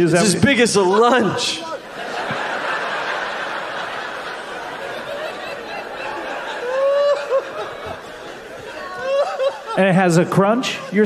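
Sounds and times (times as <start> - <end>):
audience laughing: 0.2 - 11.0.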